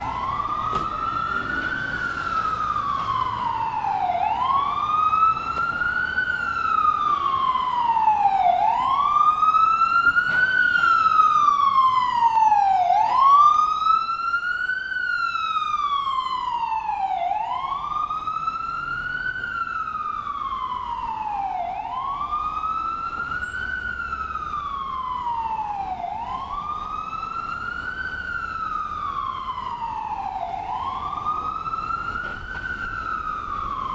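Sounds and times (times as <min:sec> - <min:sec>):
ambulance siren wailing: 0:00.0 - 0:33.9
faint street traffic: 0:00.0 - 0:33.9.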